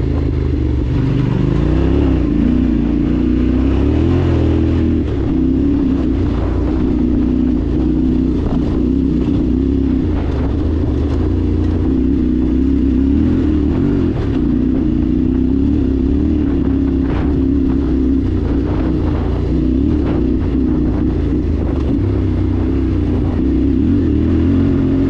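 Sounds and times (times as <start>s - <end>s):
engine droning at road speed: 0.0s - 25.0s.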